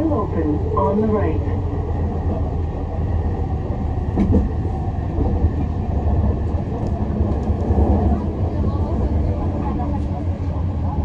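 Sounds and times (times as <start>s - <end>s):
train car low rumble: 0.0s - 11.0s.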